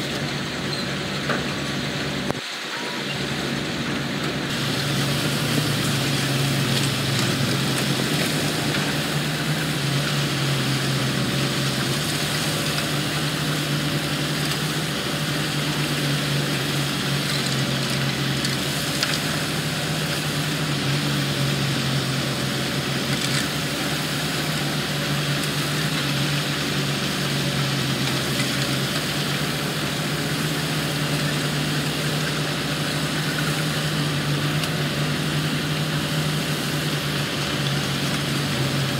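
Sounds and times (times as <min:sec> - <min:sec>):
diesel engine running steadily: 0:00.0 - 0:38.9.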